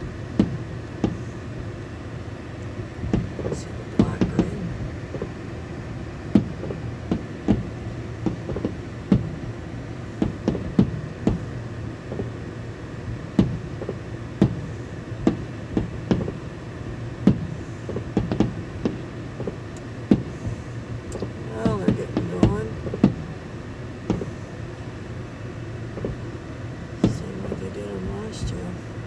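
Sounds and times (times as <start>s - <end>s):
distant fireworks bangs: 0.0s - 29.0s
steady low hum: 0.0s - 29.0s.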